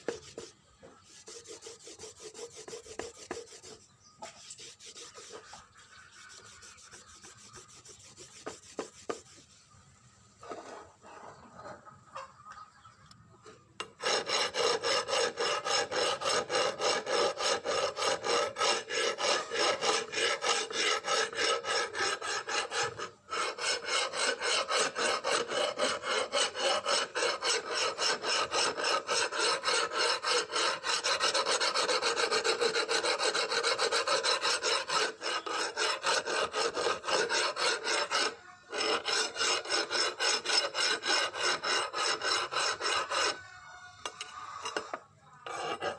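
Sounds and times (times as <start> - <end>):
file rasping back and forth: 0.0 - 9.6, 10.4 - 11.8, 13.8 - 45.9.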